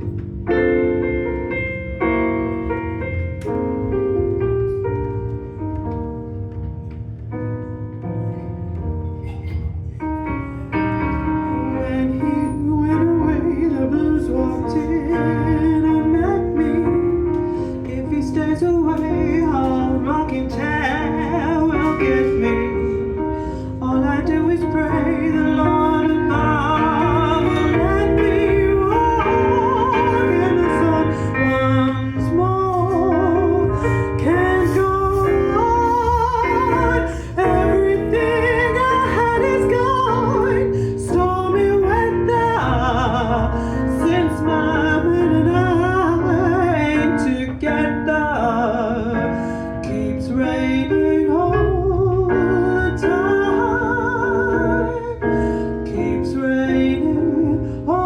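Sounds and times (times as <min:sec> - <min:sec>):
steady bass line: 0:00.0 - 0:09.2, 0:09.8 - 0:48.0
piano chords: 0:00.0 - 0:58.0.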